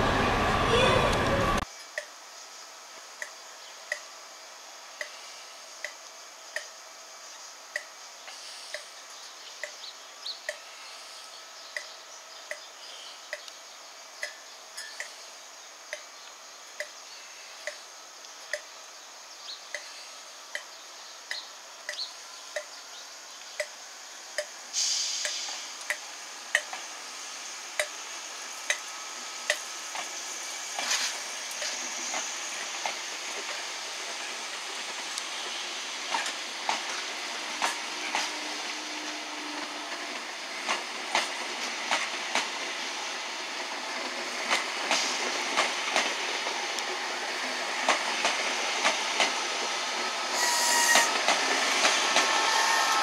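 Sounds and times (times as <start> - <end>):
steady hiss of air: 1.6 - 53.0.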